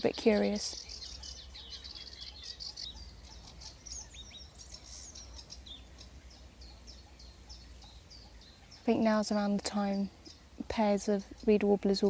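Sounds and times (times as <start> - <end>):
warbler chirping: 0.0 - 12.0.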